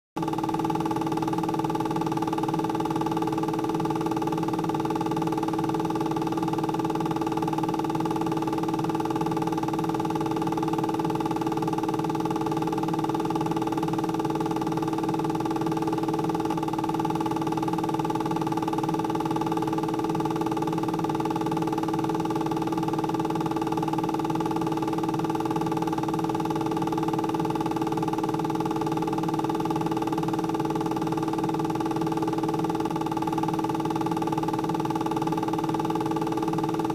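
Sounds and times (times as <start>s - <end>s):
electronic hum of held tones: 0.2s - 36.9s.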